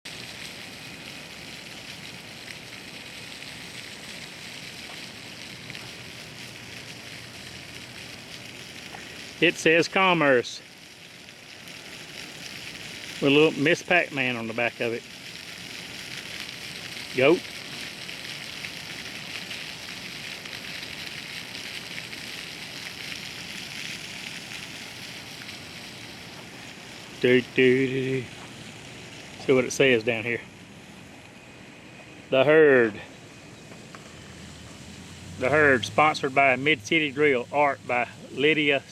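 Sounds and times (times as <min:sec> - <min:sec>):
water fountain splashing: 0:00.1 - 0:38.9.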